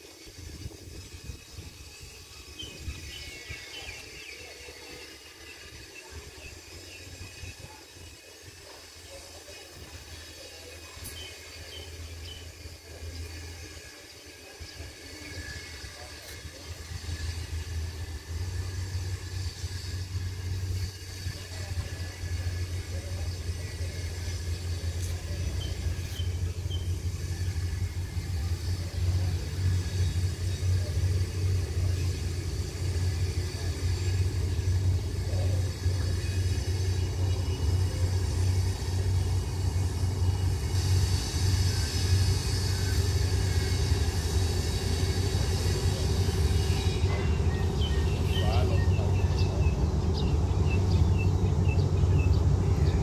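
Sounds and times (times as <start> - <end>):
high hiss: 0.0 - 51.3
diesel locomotive rumble: 0.0 - 53.0.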